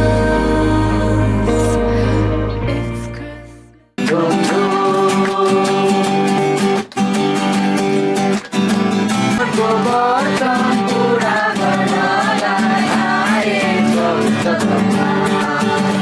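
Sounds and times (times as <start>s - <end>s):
song with singing voices: 0.0s - 7.0s, 9.1s - 16.0s
instrumental accompaniment: 0.0s - 16.0s.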